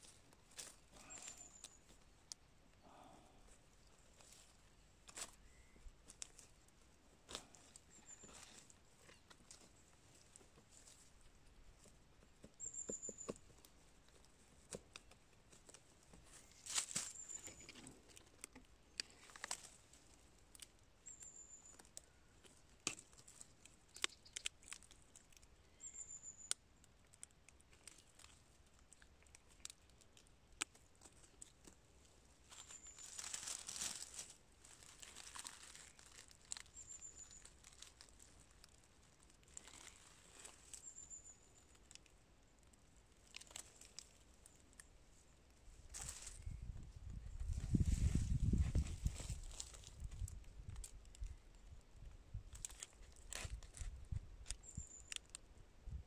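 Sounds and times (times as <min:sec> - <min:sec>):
rustling of dry leaf litter: 0:00.0 - 0:12.0, 0:13.5 - 0:26.5, 0:27.1 - 0:51.8, 0:52.4 - 0:55.4.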